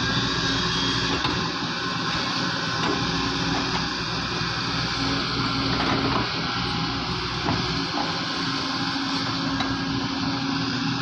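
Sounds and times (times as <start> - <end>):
diesel excavator engine running: 0.0 - 11.0.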